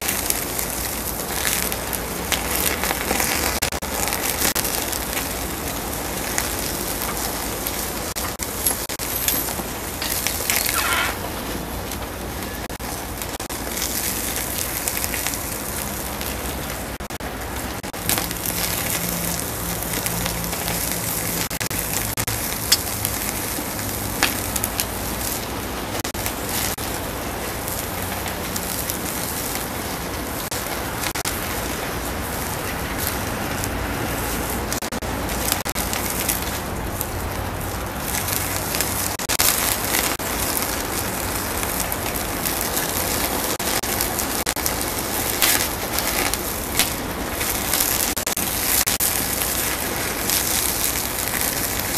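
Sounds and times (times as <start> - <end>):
wood fire crackling and popping: 0.0 - 51.9.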